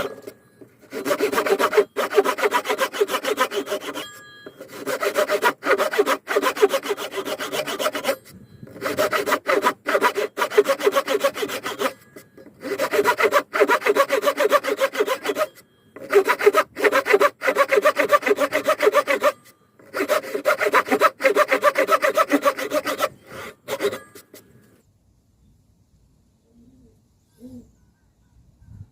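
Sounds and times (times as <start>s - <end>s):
hand saw cutting wood: 0.0s - 24.5s.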